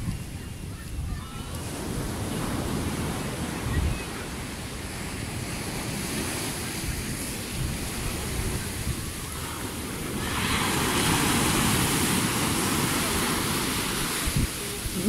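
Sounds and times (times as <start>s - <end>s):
surf breaking on a sandy beach: 0.0s - 15.0s
wind buffeting microphone: 0.0s - 15.0s.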